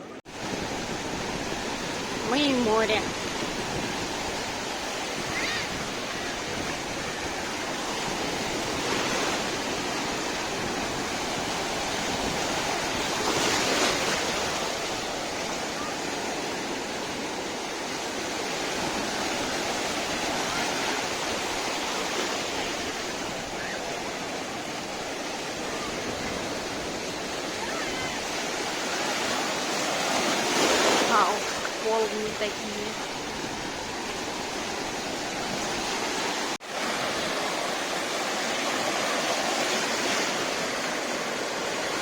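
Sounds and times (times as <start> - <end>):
waves washing onto beach: 0.0 - 42.0
wave breaking: 0.3 - 42.0.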